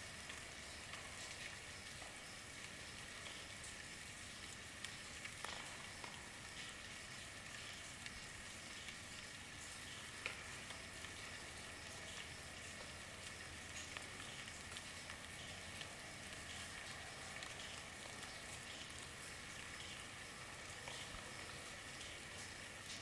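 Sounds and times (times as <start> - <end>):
rain drop ticks: 0.0 - 23.0
steady rain hiss: 0.0 - 23.0.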